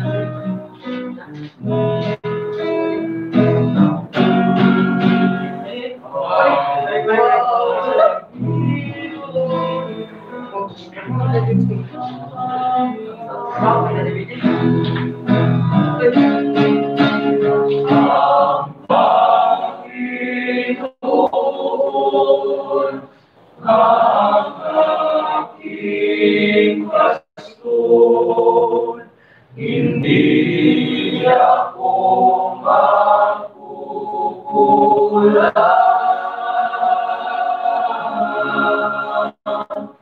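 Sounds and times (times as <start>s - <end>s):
male choir singing: 3.8s - 40.0s.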